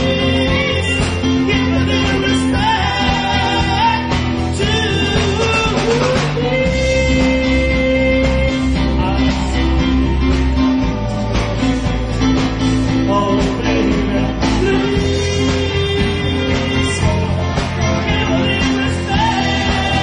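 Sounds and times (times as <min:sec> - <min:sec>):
drums: 0:00.0 - 0:20.0
electric bass: 0:00.0 - 0:20.0
electric guitar: 0:00.0 - 0:20.0
keyboard: 0:00.0 - 0:20.0.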